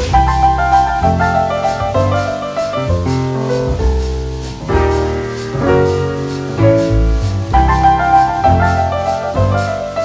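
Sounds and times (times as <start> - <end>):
instrumental jazz music: 0.0 - 10.0.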